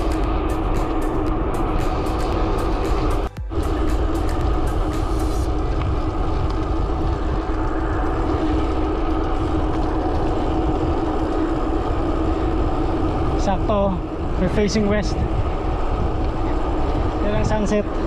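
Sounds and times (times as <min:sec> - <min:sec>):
bicycle tyre hum: 0:00.0 - 0:18.0
wind rush: 0:00.0 - 0:18.0.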